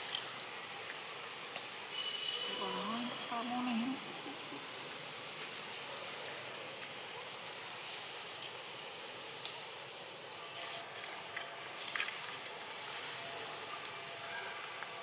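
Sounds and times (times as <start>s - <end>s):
high insect-like hiss: 0.0s - 15.0s.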